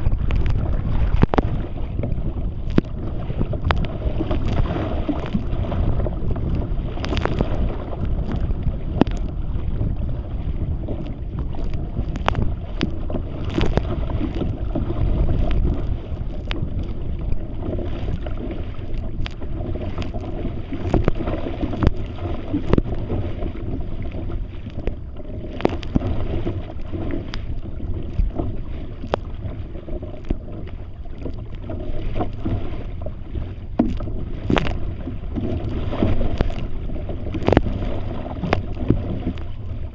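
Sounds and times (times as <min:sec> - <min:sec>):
waves slapping against boat: 0:00.0 - 0:39.9
wind buffeting microphone: 0:00.0 - 0:39.9.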